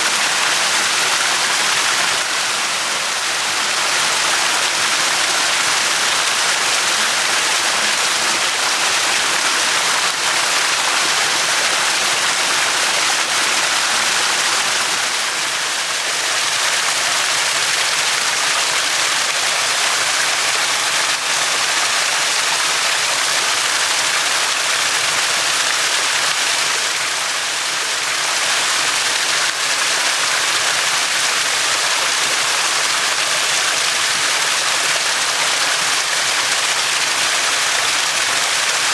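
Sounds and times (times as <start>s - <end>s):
stream running over stones: 0.0s - 38.9s.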